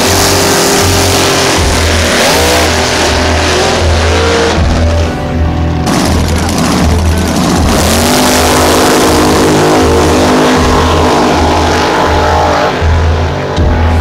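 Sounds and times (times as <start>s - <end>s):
dragster engine revving: 0.0s - 14.0s
music with low beat: 0.0s - 14.0s.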